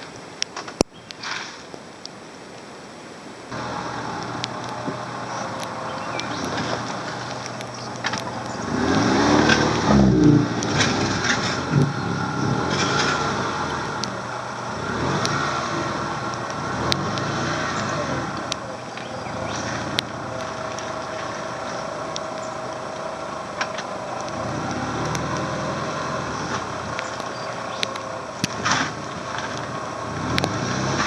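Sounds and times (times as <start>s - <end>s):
car engine revving: 3.5s - 31.0s.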